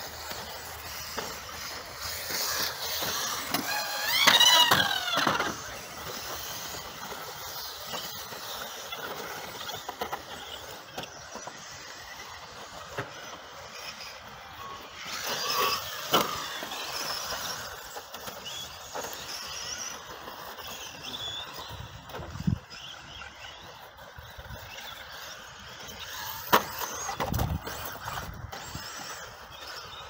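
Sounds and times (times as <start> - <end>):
model car motor whine: 0.0 - 30.0
tyres scrabbling over dirt: 0.0 - 30.0.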